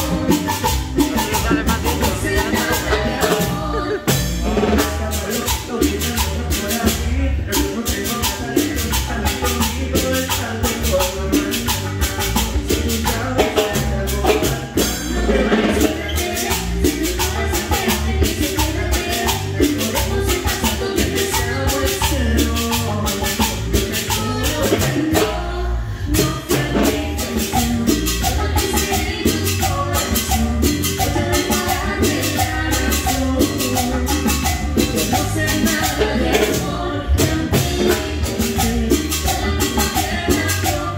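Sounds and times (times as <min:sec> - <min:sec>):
band playing cumbia music: 0:00.0 - 0:40.9
heavy bass line: 0:00.0 - 0:40.9
shaker and cymbal beat: 0:00.0 - 0:40.9.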